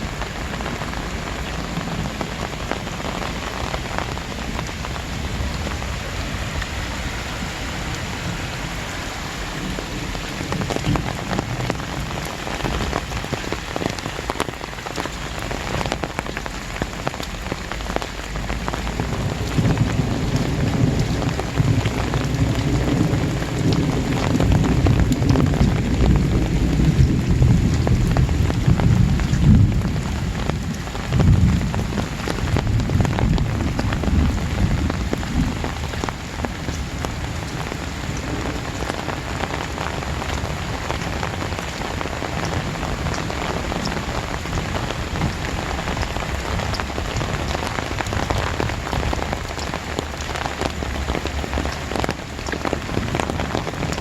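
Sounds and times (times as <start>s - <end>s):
rolling thunder: 0.0s - 14.0s, 18.2s - 49.5s
heavy rain pouring: 0.0s - 54.0s.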